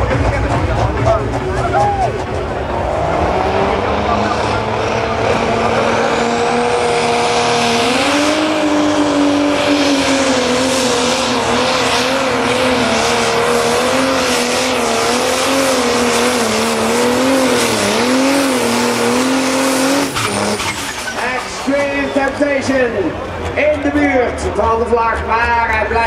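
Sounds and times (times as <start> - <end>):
diesel engine running flat out: 0.0 - 26.0.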